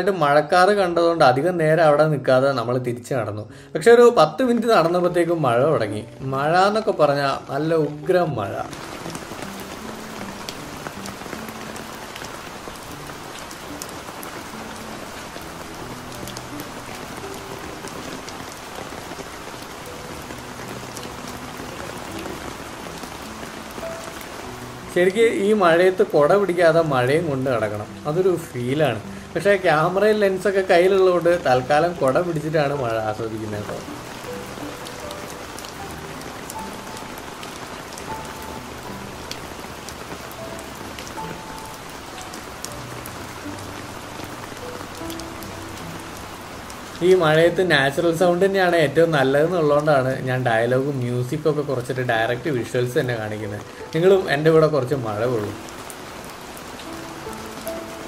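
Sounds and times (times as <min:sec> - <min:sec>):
raindrops ticking: 0:04.2 - 0:58.0
heavy rain: 0:04.3 - 0:58.0.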